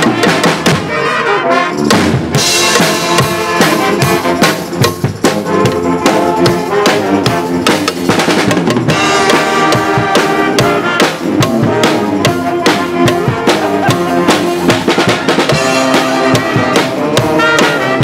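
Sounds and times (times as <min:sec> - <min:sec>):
drum kit steady beat: 0:00.0 - 0:00.9, 0:01.8 - 0:18.0
brass holding chords: 0:00.0 - 0:07.9, 0:08.9 - 0:18.0.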